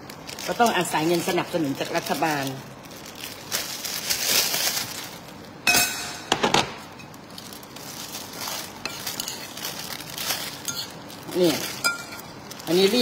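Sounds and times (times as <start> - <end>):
plastic bag crinkling: 0.0 - 5.6, 6.7 - 13.0.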